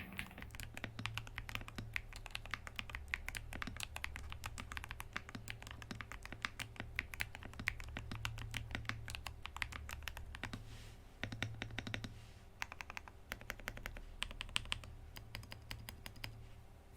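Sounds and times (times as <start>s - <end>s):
mechanical keyboard typing: 0.0s - 10.6s, 11.2s - 16.4s
faint low hum: 0.0s - 16.9s.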